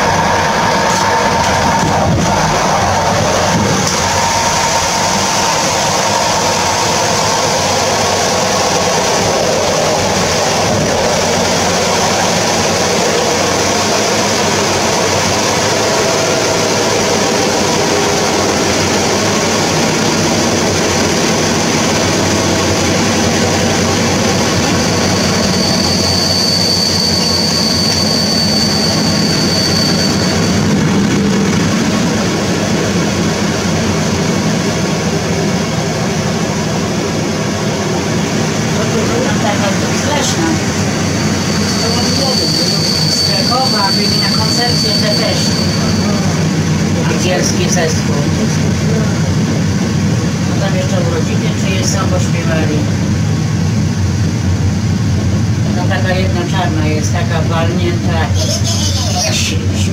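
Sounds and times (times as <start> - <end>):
electric locomotive running: 0.0 - 59.9
high steady whine: 0.0 - 59.9.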